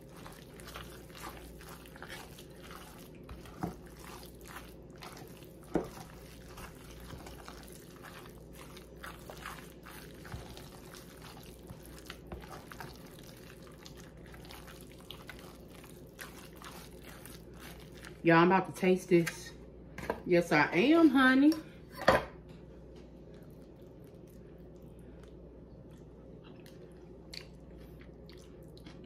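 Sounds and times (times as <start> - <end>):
wet squishing of stirred salad: 0.0 - 18.6, 23.1 - 29.0.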